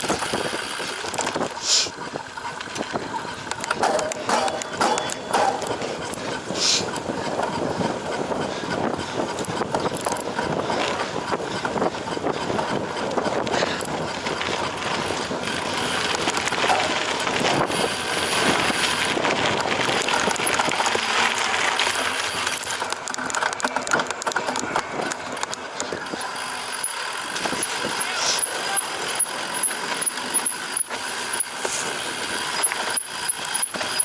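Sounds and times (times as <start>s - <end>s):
bike clicks and knocks: 0.0s - 34.0s
bike tyre noise on rough ground: 0.0s - 34.0s.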